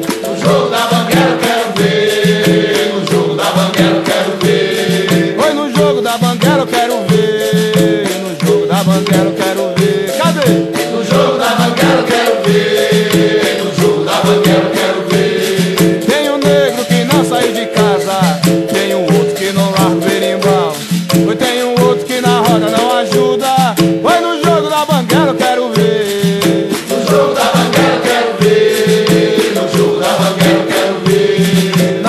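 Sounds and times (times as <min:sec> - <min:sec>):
voices singing: 0:00.0 - 0:32.0.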